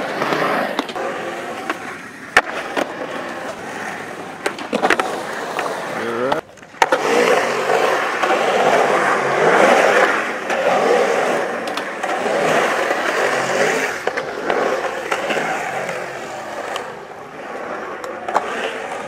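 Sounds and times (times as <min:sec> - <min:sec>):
skateboard wheels rolling on concrete: 0:00.0 - 0:19.0.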